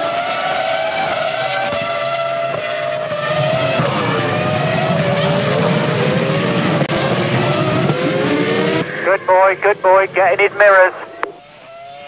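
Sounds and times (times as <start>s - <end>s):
racing car engines at high revs: 0.0s - 12.0s.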